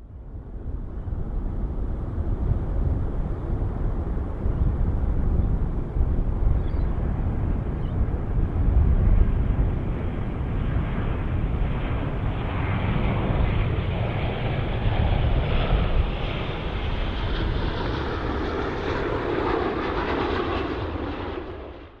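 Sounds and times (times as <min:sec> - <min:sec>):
distant jet airliner engine: 0:00.0 - 0:22.0.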